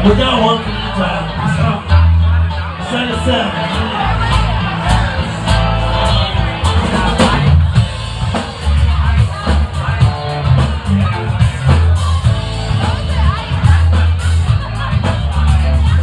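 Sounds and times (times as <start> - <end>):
bass guitar: 0.0 - 16.0
electric guitar: 0.0 - 16.0
drum kit with cymbal strikes: 3.2 - 16.0.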